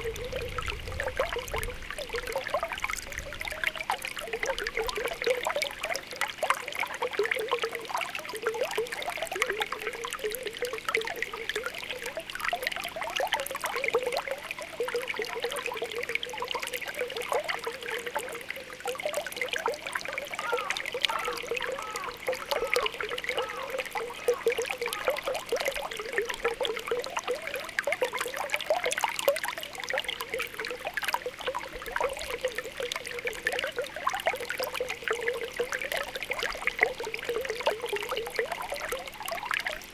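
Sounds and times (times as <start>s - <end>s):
spring water bubbling: 0.0s - 39.9s.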